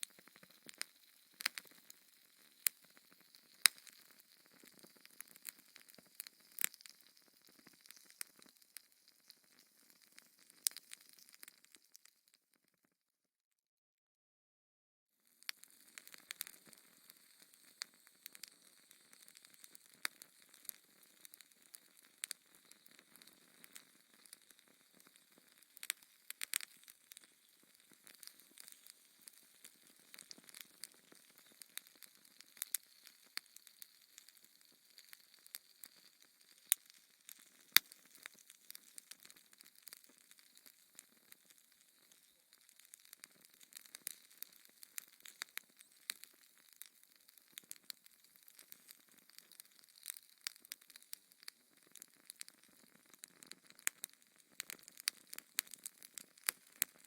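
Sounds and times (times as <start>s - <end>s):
wood fire crackling: 0.0s - 12.1s, 15.4s - 57.0s
fire pops and snaps: 0.0s - 12.5s, 15.4s - 57.0s.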